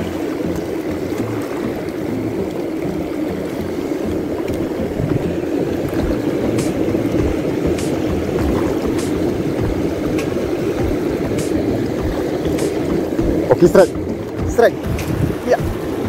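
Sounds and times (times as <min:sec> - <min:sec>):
sea water washing over rocks: 0:00.0 - 0:16.0
wind buffeting microphone: 0:00.0 - 0:16.0.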